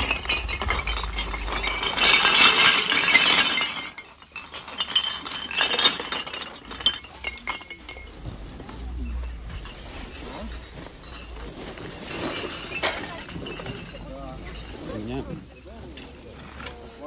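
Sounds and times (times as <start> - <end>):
plastic bag rustling: 0.0 - 16.1
recyclables clinking and clattering: 0.0 - 17.0.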